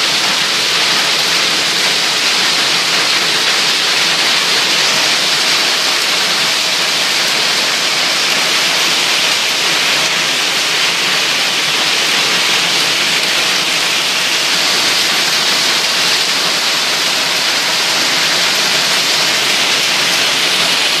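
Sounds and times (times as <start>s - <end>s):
heavy rain downpour: 0.0s - 21.0s.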